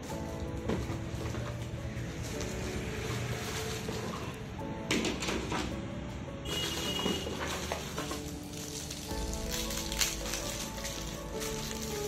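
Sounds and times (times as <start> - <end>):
music with sustained notes: 0.0 - 12.0.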